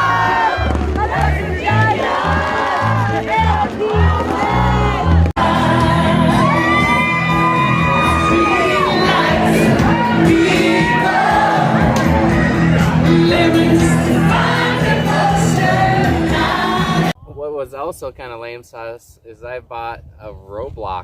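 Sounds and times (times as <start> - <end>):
people shouting and whooping: 0.0 - 17.1
group singing along loudly: 0.0 - 17.2
music: 0.0 - 17.2.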